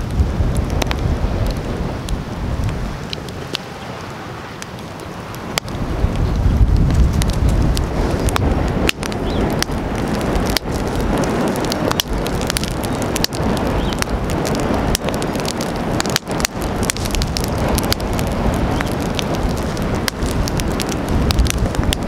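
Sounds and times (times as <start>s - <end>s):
steady rushing noise: 0.0s - 22.0s
wood fire crackling and popping: 0.0s - 22.0s.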